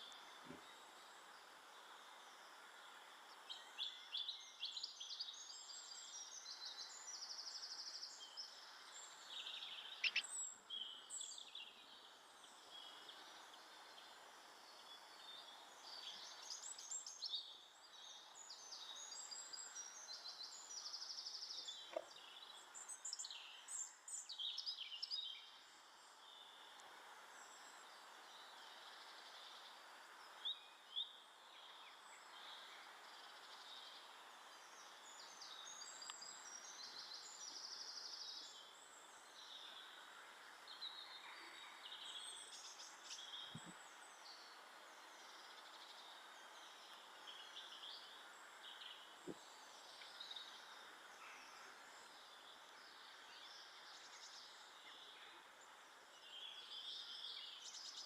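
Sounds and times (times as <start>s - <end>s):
background hiss: 0.0s - 58.0s
small birds chirping: 0.0s - 58.0s.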